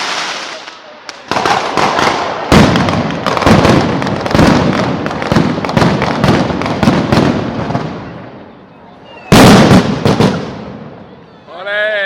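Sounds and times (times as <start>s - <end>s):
fireworks exploding: 0.0s - 11.1s.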